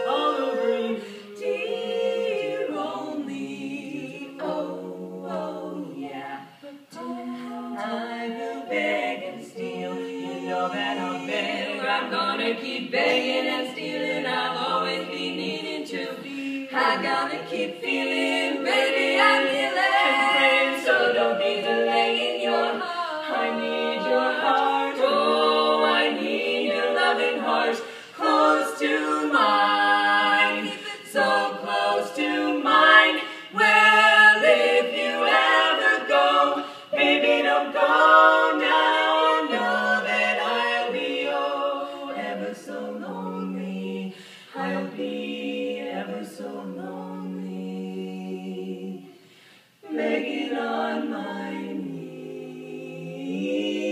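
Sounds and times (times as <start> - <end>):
female quartet singing a cappella: 0.0 - 53.9.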